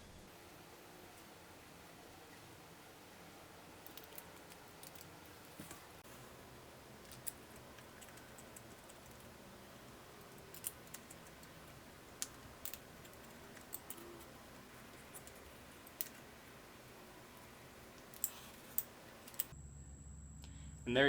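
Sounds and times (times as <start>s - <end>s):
faint steady hiss: 0.0s - 19.6s.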